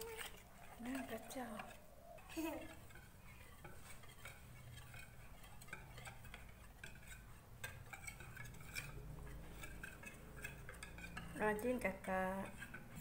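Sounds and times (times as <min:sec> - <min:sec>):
whisk scraping plastic bowl: 0:00.0 - 0:13.0.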